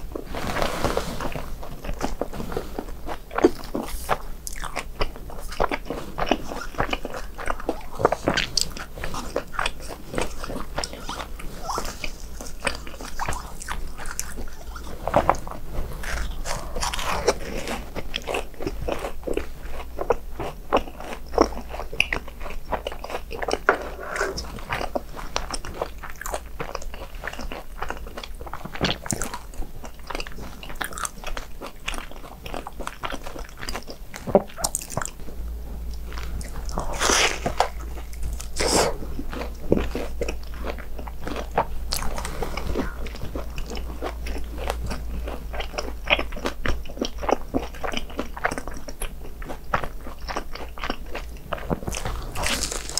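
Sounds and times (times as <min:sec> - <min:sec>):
person crunching crispy snacks: 0:00.5 - 0:23.7, 0:24.6 - 0:35.2, 0:35.9 - 0:52.9.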